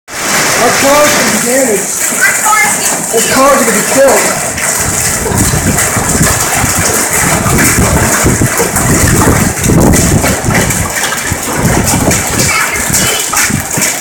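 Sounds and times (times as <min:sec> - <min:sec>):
hail and rain pelting: 0:00.1 - 0:14.0.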